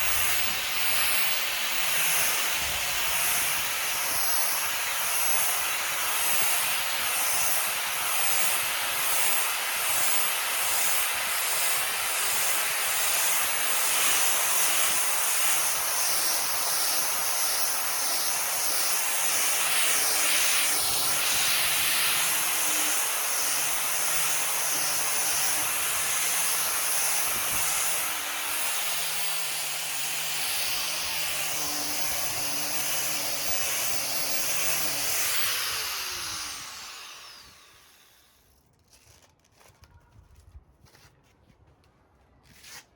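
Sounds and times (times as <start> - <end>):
orbital sander on wood: 0.0 - 38.4.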